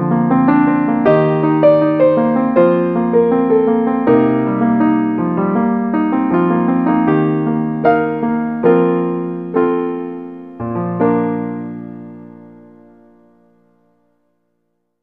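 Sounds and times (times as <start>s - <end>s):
gentle piano melody: 0.0s - 14.6s.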